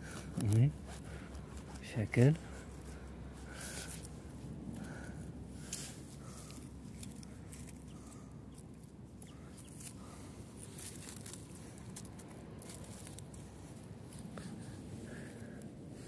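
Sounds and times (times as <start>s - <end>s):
rustling dry grass and leaves: 0.0s - 16.0s
steady low rumble: 0.0s - 16.0s.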